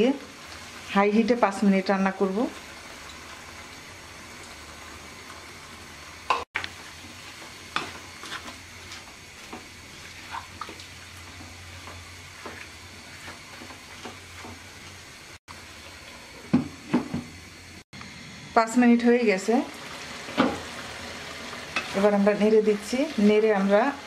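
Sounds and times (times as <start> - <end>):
vegetables sizzling and popping: 0.0 - 24.0.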